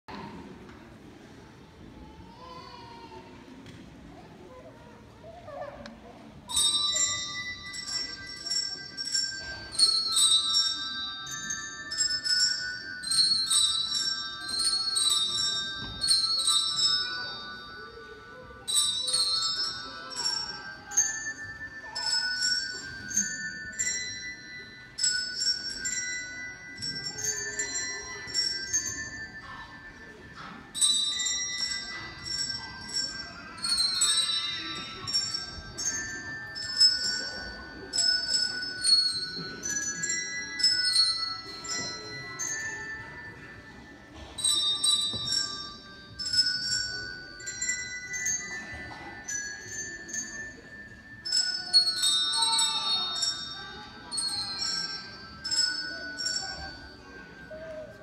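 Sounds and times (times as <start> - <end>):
handbells ringing a tune: 6.3 - 58.0.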